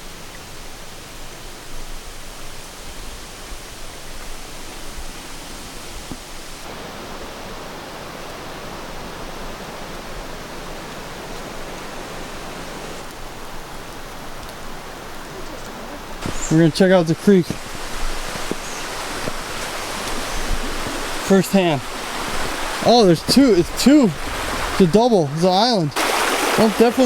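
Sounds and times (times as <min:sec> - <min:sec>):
creek water rushing: 0:02.8 - 0:27.0.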